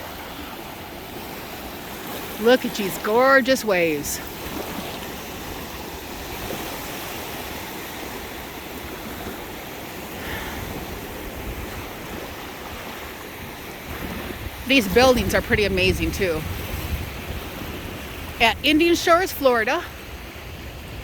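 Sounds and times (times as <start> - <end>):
small waves washing onto beach: 0.0 - 21.0.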